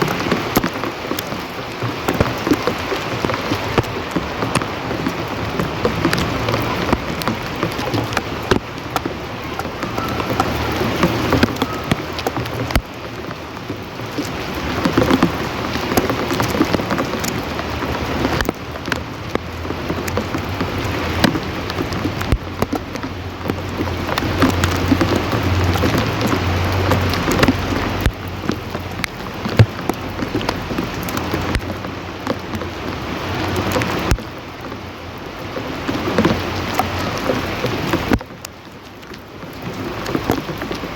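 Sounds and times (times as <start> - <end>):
rain drops on a surface: 0.0 - 40.9.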